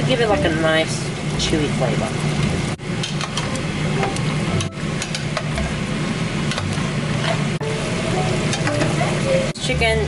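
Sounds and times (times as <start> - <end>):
gravy sizzling and bubbling in pot: 0.0 - 10.0.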